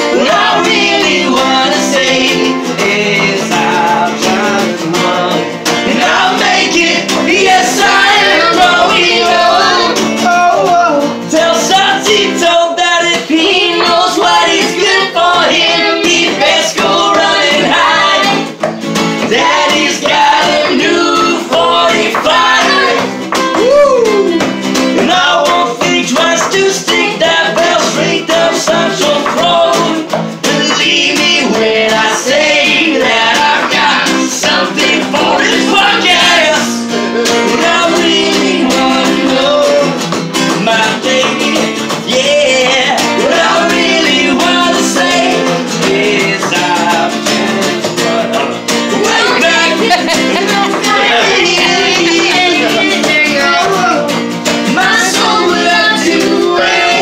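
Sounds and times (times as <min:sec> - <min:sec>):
acoustic guitar strumming: 0:00.0 - 0:57.0
man and woman singing: 0:00.0 - 0:57.0.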